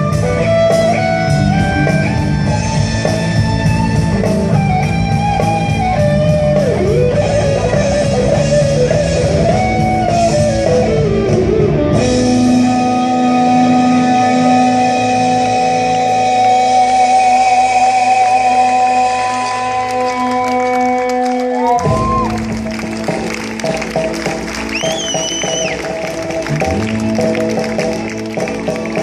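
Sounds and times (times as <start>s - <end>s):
bass and rhythm backing: 0.0s - 29.0s
electric guitar melody: 0.0s - 29.0s.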